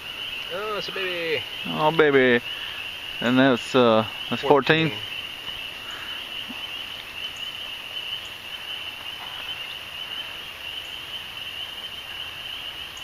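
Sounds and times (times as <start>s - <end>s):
frogs calling: 0.0s - 13.0s.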